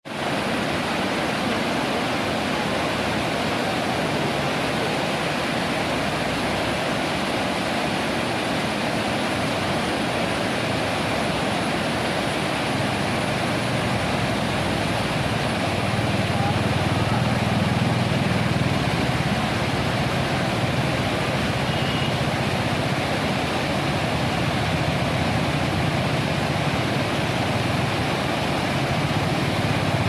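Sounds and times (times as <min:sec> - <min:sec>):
waterfall rushing and splashing: 0:00.0 - 0:30.0.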